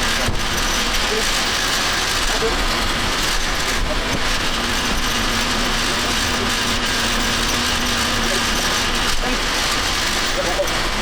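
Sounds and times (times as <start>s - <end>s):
machinery running: 0.0s - 11.0s.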